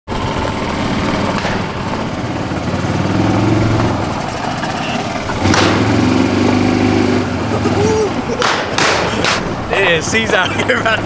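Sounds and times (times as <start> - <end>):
golf cart engine running: 0.1 - 11.0.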